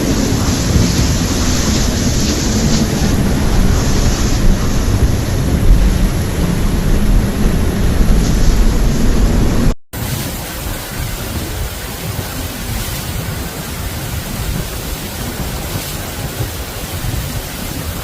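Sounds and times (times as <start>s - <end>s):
rushing water: 0.0s - 18.0s
wind buffeting microphone: 0.0s - 18.0s.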